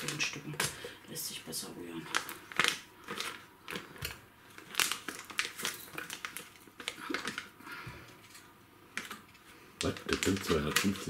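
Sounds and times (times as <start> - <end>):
paper wrapper crinkling: 2.0 - 11.0.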